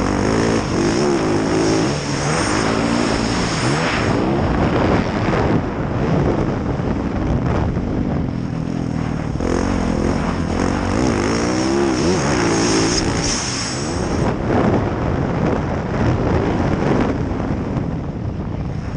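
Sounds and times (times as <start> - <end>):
motorcycle engine revving: 0.0 - 17.2.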